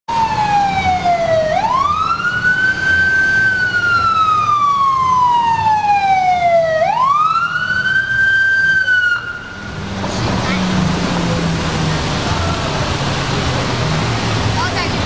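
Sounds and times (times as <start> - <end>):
fire engine siren wailing: 0.1 - 14.6.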